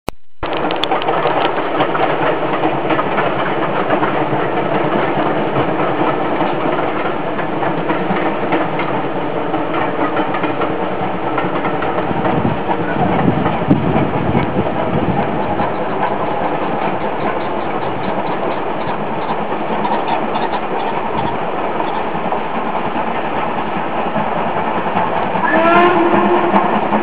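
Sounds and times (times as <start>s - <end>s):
steam locomotive chuffing: 0.4s - 27.0s.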